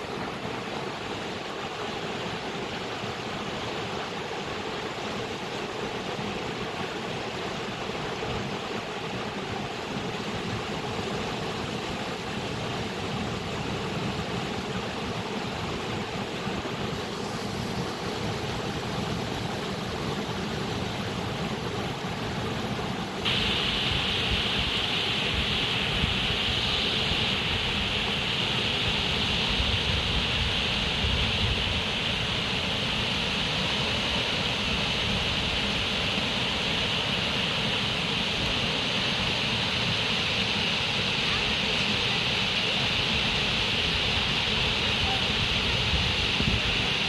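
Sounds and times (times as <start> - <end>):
running water rushing: 0.0 - 47.0.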